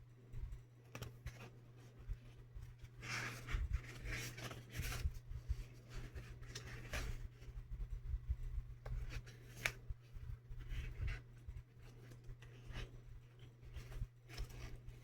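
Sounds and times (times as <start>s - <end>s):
steady low hum: 0.0s - 15.0s
paper rustling as book pages turn: 0.8s - 7.6s, 8.8s - 15.0s.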